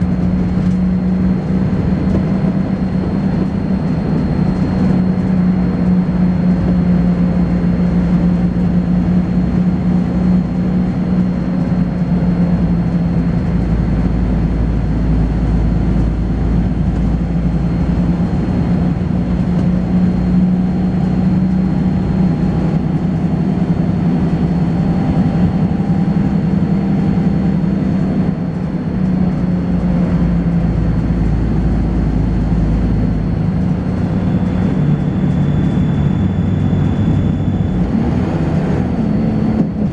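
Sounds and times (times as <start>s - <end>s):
bus diesel engine droning: 0.0s - 39.9s
high-pitched whine: 0.0s - 39.9s.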